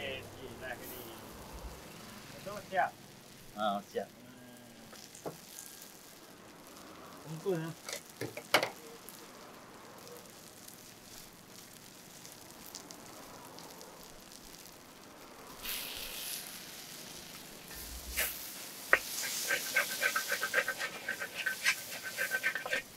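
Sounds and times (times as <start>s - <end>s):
food sizzling in hot oil: 0.0s - 22.9s.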